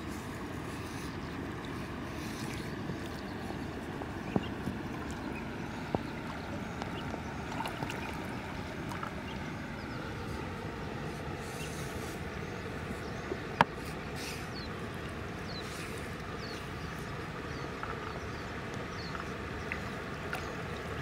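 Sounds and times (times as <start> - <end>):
river water sloshing around legs: 0.0 - 21.0.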